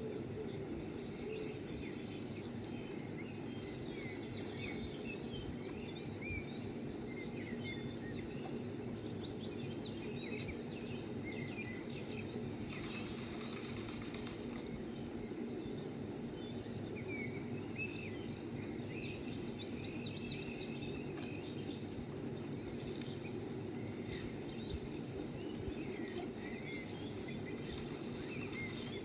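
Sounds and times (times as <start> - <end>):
birds chirping: 0.0 - 29.0
low background hum: 0.0 - 29.0.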